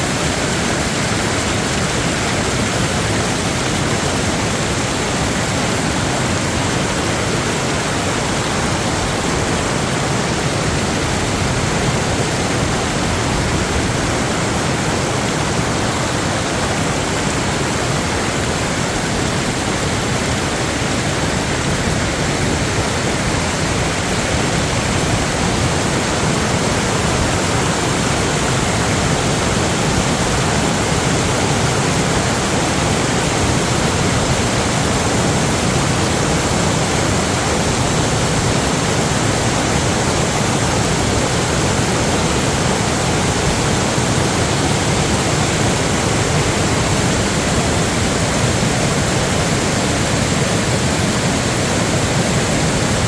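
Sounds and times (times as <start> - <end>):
loud rush of water: 0.0 - 53.0.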